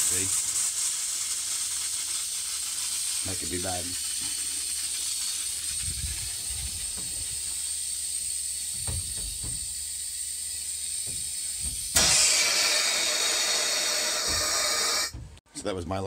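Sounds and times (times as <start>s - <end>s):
compressed air hissing from faucet: 0.0s - 15.2s.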